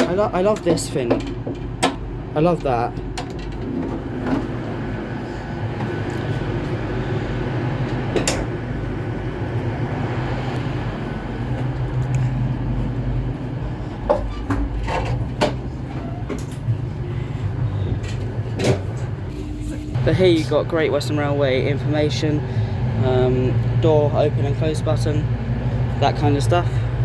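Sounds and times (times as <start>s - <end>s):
low hum inside train: 0.0s - 27.0s.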